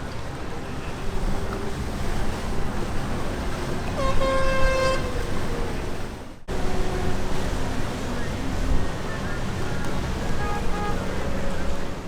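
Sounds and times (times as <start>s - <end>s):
wind: 0.0s - 12.0s
boat horn blast: 0.7s - 12.0s.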